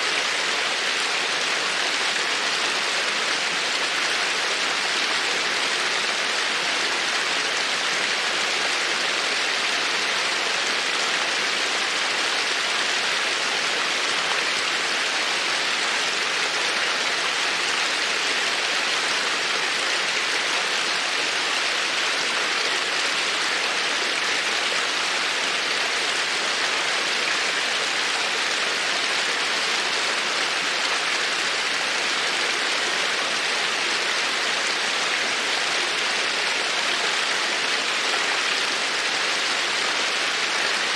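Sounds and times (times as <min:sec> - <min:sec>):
creek water babbling over stones: 0:00.0 - 0:40.9.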